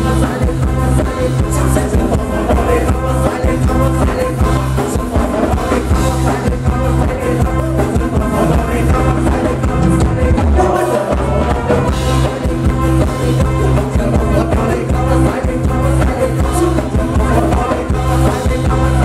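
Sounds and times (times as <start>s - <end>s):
drum kit: 0.0s - 19.0s
electric guitar: 0.0s - 19.0s
man singing into a microphone: 0.0s - 19.0s.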